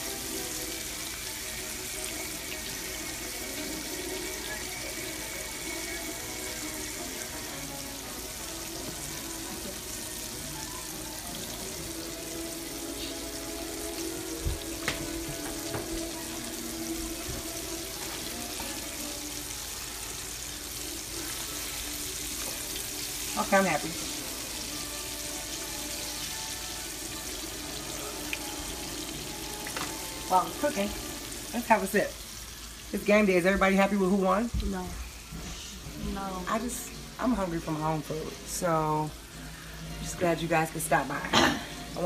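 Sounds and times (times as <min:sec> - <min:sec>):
fish frying in hot oil: 0:00.0 - 0:42.0.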